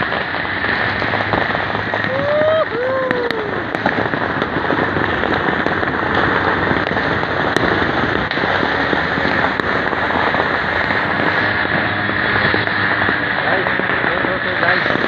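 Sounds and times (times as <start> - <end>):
fireworks crackling: 0.0 - 15.0
sharp firecracker pops: 0.0 - 15.0.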